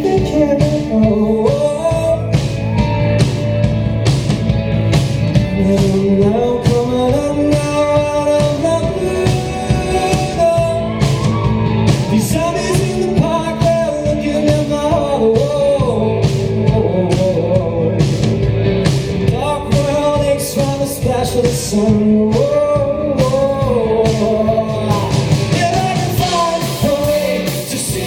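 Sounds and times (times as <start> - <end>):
man singing: 0.0 - 3.3, 5.3 - 18.6, 19.2 - 28.0
live rock band playing: 0.0 - 28.0.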